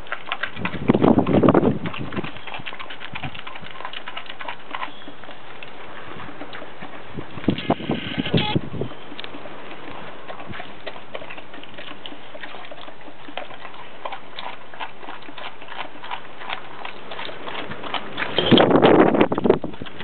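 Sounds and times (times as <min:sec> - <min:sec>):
dog chewing and licking: 0:00.0 - 0:20.0.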